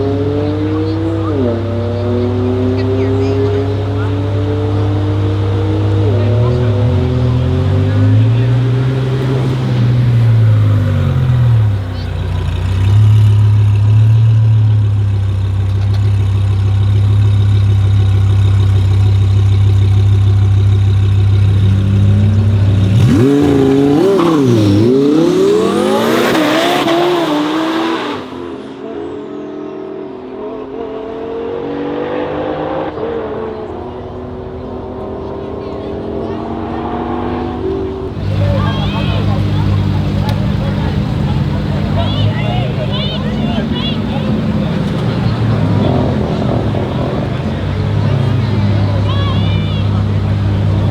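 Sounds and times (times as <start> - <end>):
sports car engine revving: 0.0 - 50.9.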